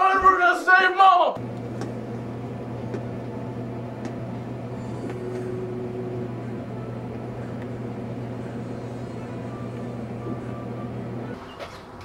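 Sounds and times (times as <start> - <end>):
steady low hum: 1.4 - 11.4.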